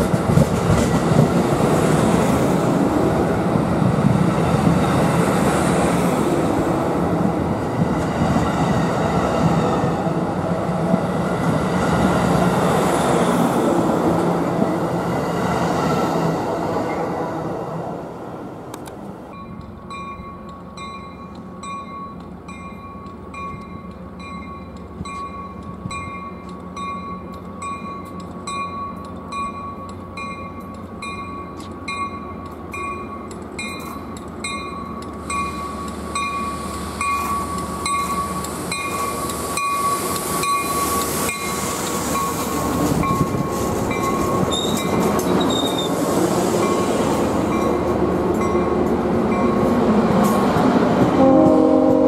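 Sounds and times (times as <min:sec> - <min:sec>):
approaching train running noise: 0:00.0 - 0:52.0.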